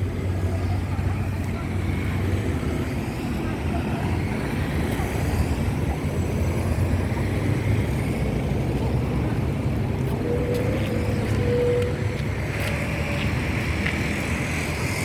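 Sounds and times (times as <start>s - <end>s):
vehicle rumbling on road: 0.0s - 15.0s.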